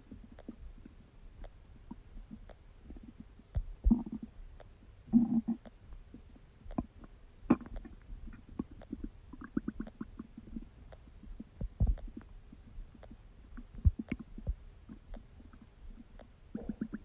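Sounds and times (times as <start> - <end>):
stomach gurgling: 1.9 - 4.4, 5.0 - 17.0.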